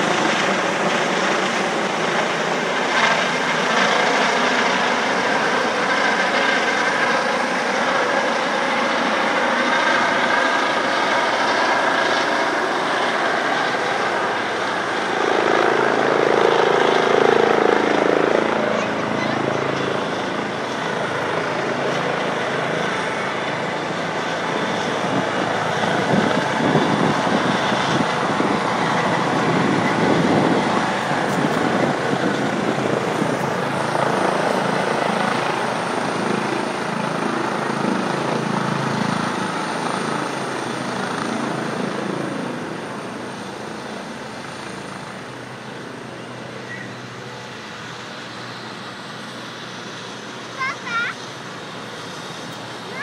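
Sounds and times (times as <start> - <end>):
helicopter rotor and turbine: 0.0 - 53.0.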